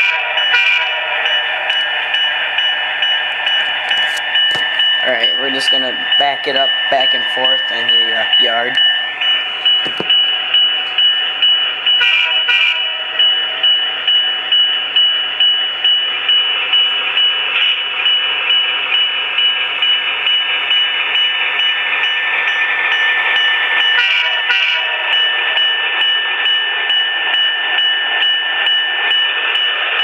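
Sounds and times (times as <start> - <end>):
model locomotive diesel engine drone: 0.0 - 30.0.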